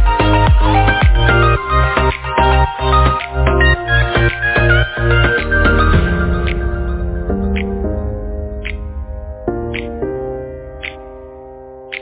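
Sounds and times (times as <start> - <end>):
electronic music with pulsing bass: 0.0 - 12.0.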